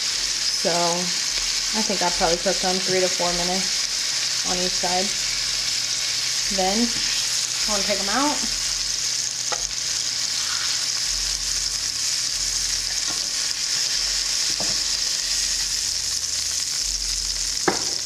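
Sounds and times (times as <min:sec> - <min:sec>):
pork chops sizzling in skillet: 0:00.0 - 0:18.0.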